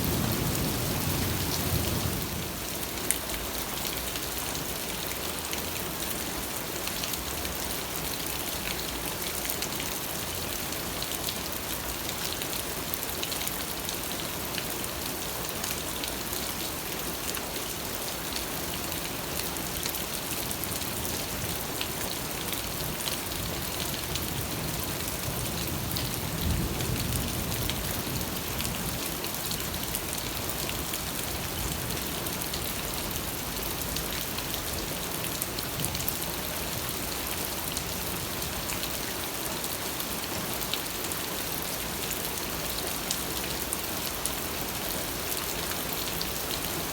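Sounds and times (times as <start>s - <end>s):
rain falling on a surface: 0.0s - 46.9s.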